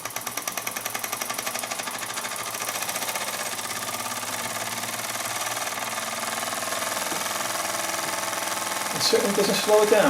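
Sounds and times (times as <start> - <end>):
toy steam engine chuffing: 0.0 - 10.0.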